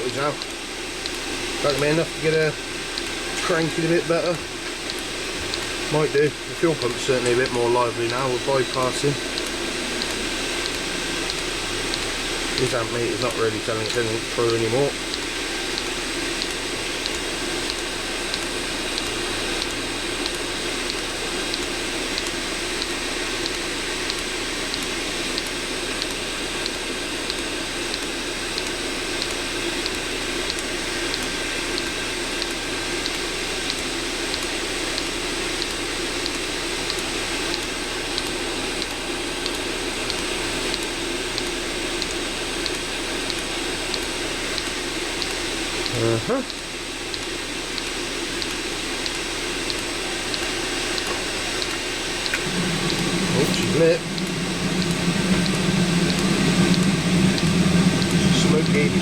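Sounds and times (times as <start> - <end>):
fan whooshing hum: 0.0 - 59.0.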